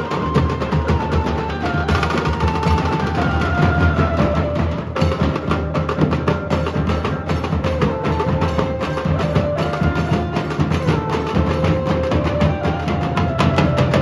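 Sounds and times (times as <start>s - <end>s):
large drums beaten with sticks: 0.0s - 14.0s
small drums fast rhythm: 0.0s - 14.0s.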